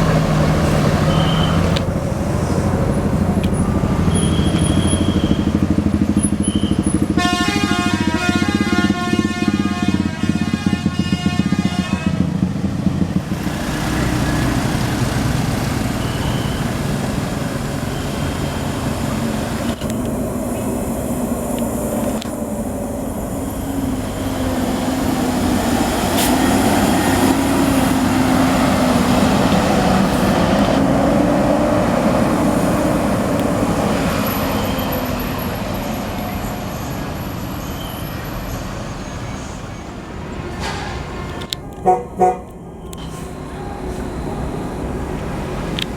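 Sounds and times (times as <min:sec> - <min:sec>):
bus passing on road: 0:00.0 - 0:45.9.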